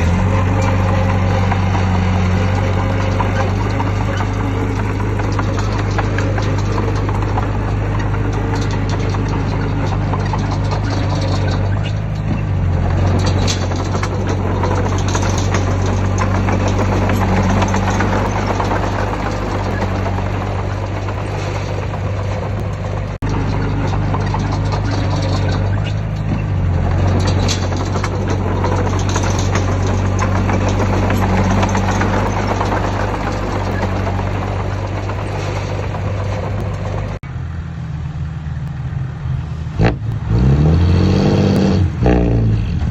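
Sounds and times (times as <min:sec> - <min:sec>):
heavy machinery diesel engine running: 0:00.0 - 0:42.9.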